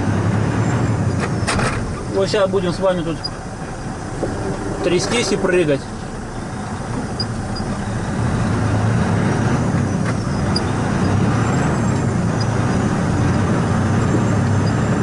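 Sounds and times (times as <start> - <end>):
diesel truck engine drone: 0.0 - 15.0
truck shaking over rough road: 0.0 - 15.0.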